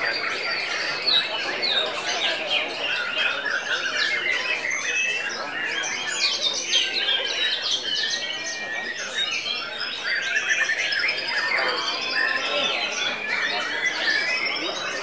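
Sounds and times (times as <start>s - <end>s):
birds singing whistles and trills: 0.0s - 15.0s.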